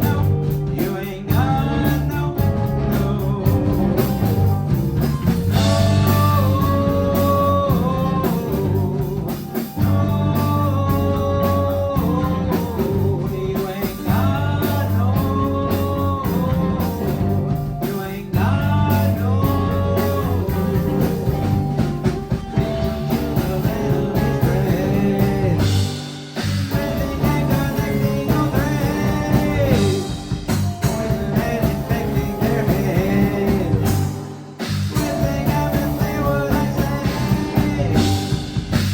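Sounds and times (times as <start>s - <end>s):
electric guitar melody: 0.0s - 38.9s
live rock band playing: 0.0s - 38.9s.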